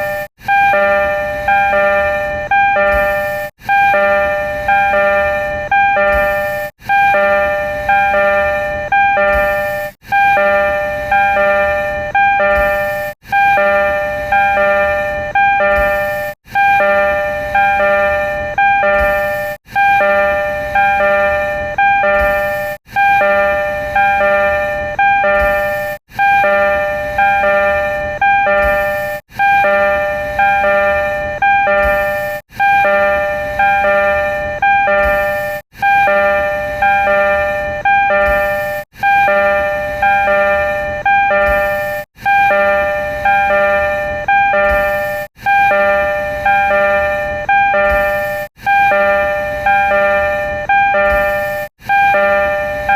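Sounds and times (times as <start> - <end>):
train door chime: 0.0 - 52.9.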